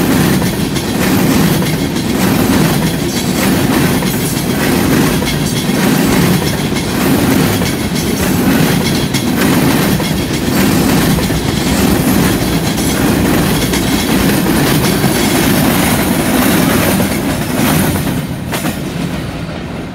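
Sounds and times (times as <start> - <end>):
freight train wheels rumbling: 0.0 - 19.9.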